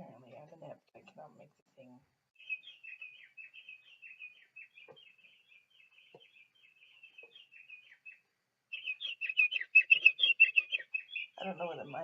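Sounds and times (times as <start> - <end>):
recorded finch song warble: 0.0 - 12.0.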